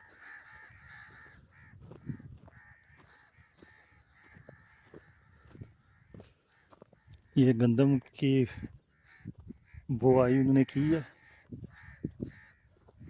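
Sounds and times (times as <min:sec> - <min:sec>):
crows cawing: 0:00.0 - 0:07.6, 0:08.6 - 0:13.0.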